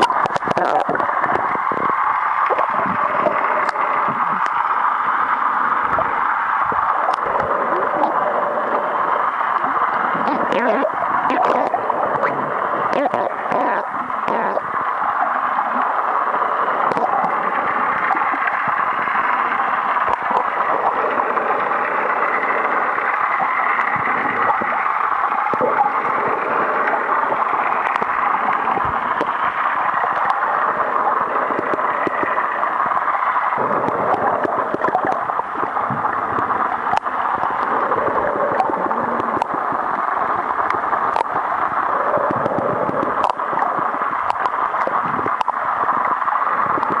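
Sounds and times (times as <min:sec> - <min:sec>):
muffled underwater rushing: 0:00.0 - 0:47.0
sharp underwater clicks: 0:00.0 - 0:47.0.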